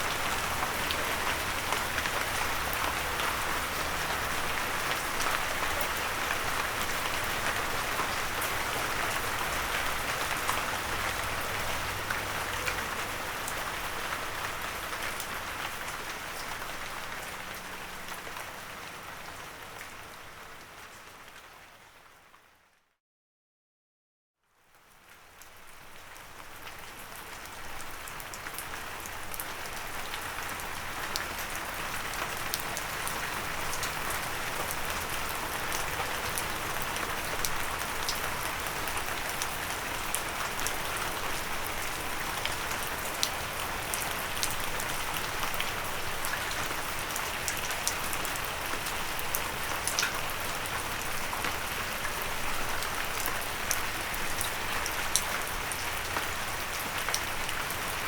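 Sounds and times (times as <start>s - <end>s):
steady rain: 0.0s - 22.7s, 24.4s - 58.0s.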